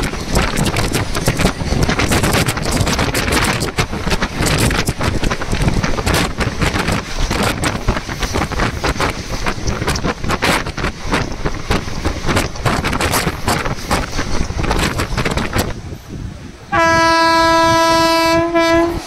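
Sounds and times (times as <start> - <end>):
train wheels clattering on rails: 0.0 - 15.8
wind buffeting microphone: 0.0 - 19.0.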